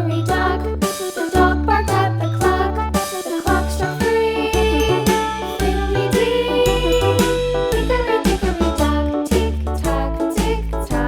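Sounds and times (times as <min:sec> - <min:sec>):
upbeat children's music: 0:00.0 - 0:11.0.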